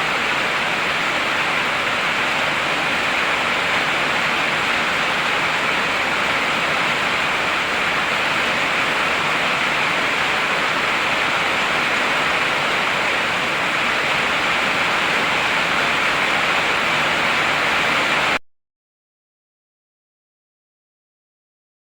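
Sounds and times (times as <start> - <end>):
heavy rain pouring: 0.0 - 18.4.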